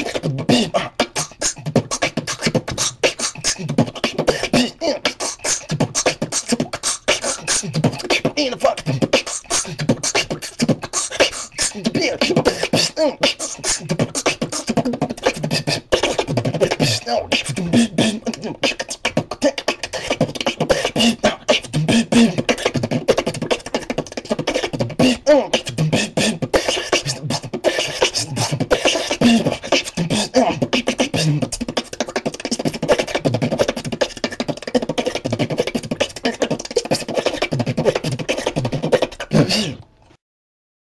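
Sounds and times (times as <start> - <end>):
beatboxing: 0.0 - 39.9.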